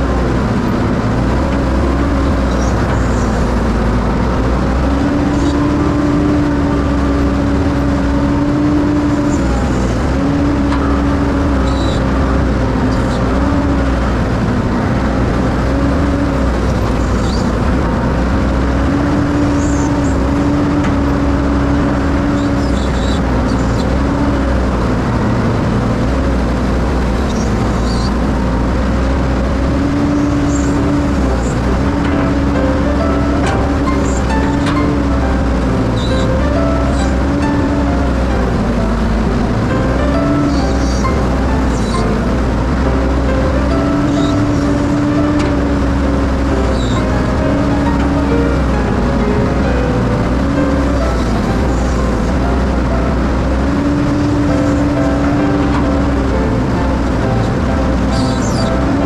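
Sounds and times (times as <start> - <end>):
excavator engine running: 0.0 - 59.0.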